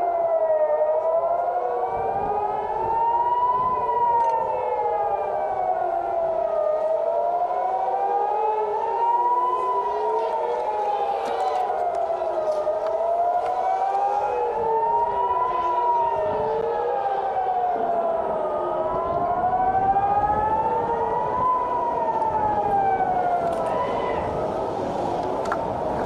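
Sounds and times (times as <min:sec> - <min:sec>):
air-raid sirens wailing: 0:00.0 - 0:26.0.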